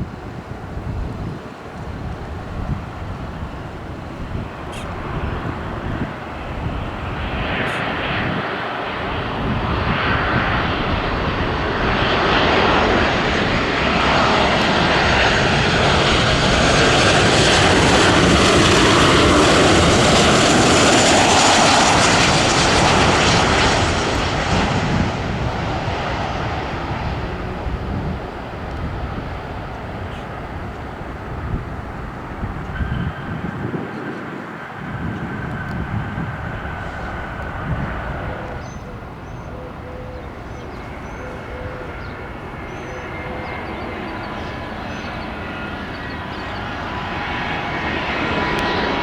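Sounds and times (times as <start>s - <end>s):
jet engines roaring past: 0.0s - 49.0s.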